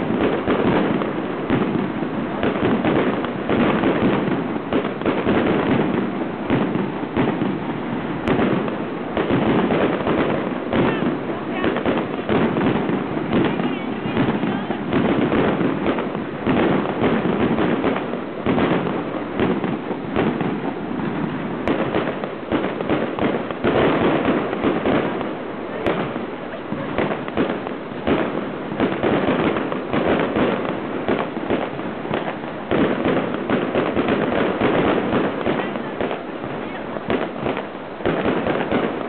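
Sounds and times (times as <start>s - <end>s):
fireworks bangs and pops: 0.0s - 39.0s.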